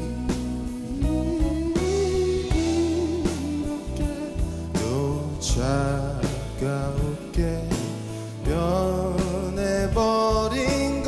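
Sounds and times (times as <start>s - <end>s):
live band with guitar bass drums: 0.0s - 11.0s
man singing a slow ballad: 0.0s - 11.0s.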